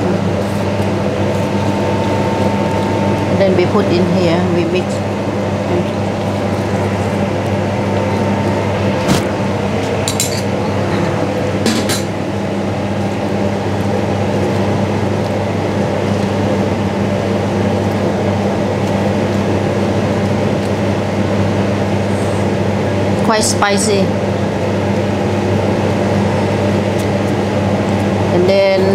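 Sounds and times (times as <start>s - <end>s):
ventilation hum: 0.0s - 28.9s.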